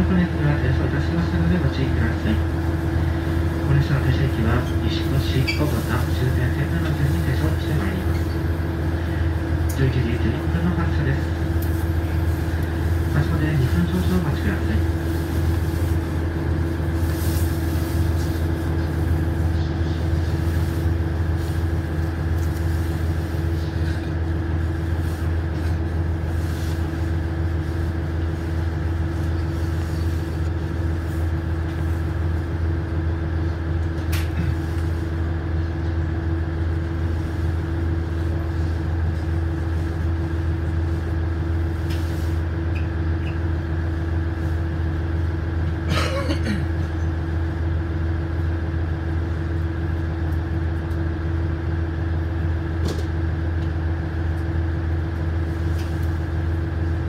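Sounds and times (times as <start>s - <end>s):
diesel railcar engine idling: 0.0s - 57.0s.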